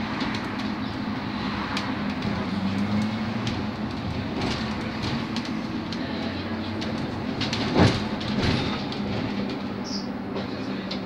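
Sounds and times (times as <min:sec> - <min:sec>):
road rumble: 0:00.0 - 0:11.0
trolleybus low hum: 0:00.0 - 0:11.0.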